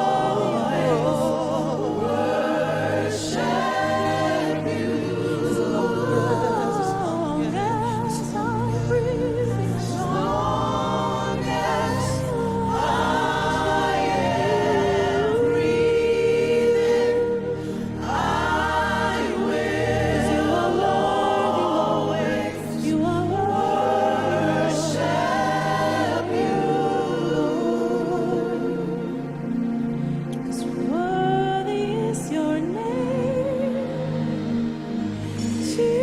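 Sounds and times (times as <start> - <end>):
choir singing slow melody: 0.0 - 36.0
low sustained instrumental accompaniment: 0.0 - 36.0.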